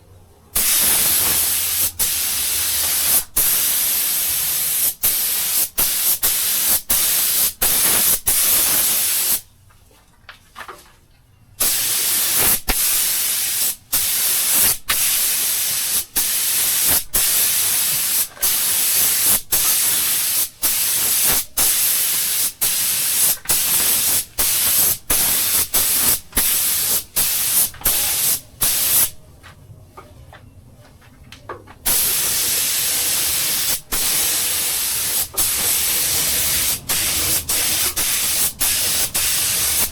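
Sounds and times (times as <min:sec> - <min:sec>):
paint spray gun hissing: 0:00.6 - 0:09.4, 0:11.6 - 0:29.2, 0:31.9 - 0:39.9.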